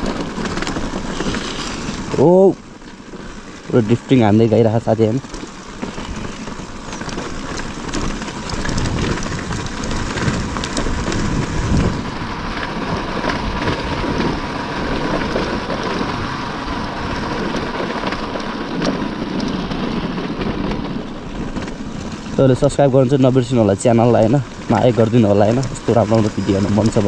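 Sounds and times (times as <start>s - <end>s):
dirt bike engine running: 0.0s - 27.0s
tyres rattling over stones: 0.0s - 27.0s
wind rushing over microphone: 0.0s - 27.0s.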